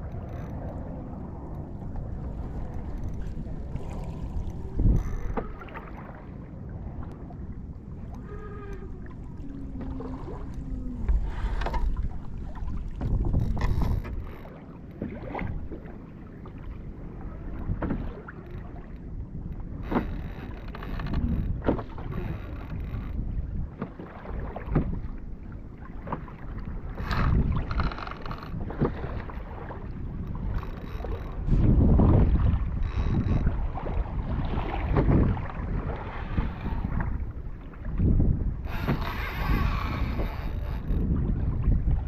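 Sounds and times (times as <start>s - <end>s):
water slapping against kayak hull: 0.0s - 8.2s, 9.1s - 42.0s
water splashes: 0.0s - 42.0s
wind buffeting microphone: 0.0s - 42.0s.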